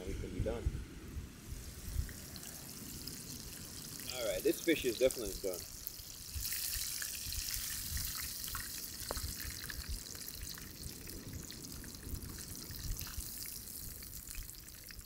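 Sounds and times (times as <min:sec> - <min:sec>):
fish deep-frying in hot oil: 0:01.5 - 0:15.0.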